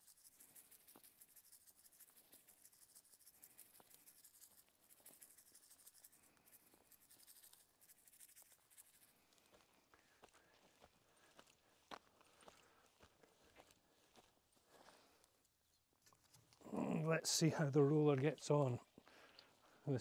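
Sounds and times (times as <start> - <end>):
faint ticks and rustles: 0.0 - 16.7, 17.4 - 20.0.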